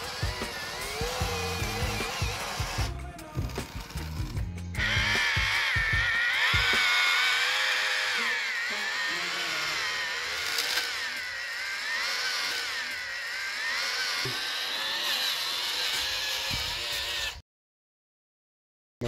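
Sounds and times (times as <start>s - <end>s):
toy truck motor whining: 0.0s - 17.4s.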